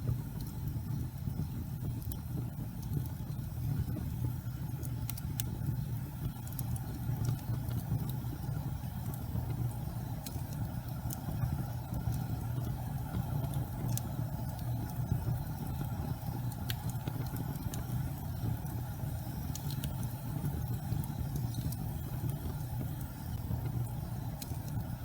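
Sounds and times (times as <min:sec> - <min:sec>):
fire burning with crackles: 0:00.0 - 0:25.0.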